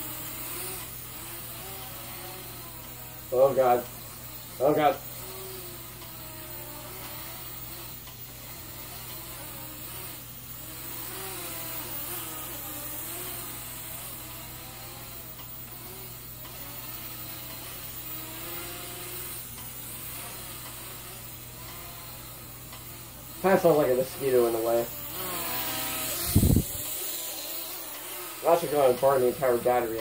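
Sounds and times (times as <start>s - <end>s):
quadcopter buzzing whine: 0.0s - 30.0s.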